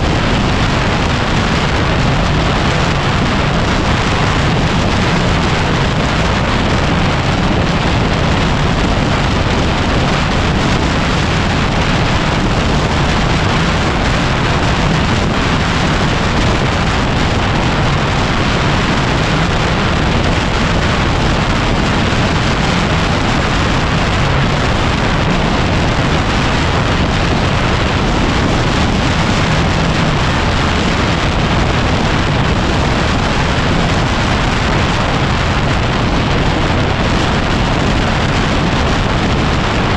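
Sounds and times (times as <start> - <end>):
motorcycle engine running low: 0.0 - 39.9
wind buffeting microphone: 0.0 - 39.9.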